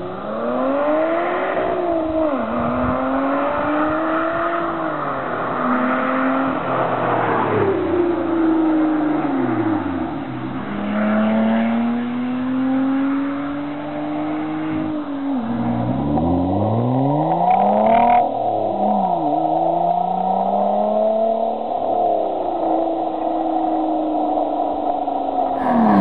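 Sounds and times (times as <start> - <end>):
car engine revving: 0.0 - 24.6, 25.6 - 26.0.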